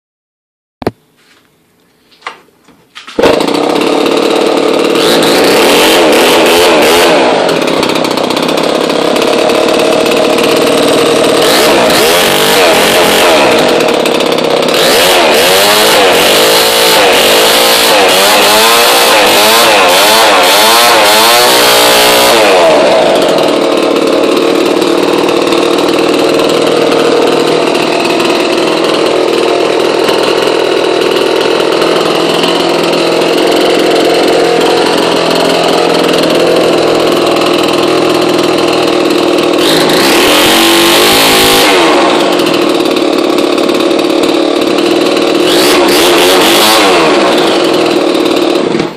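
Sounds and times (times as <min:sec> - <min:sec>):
two-stroke engine revving: 0:03.2 - 0:48.9.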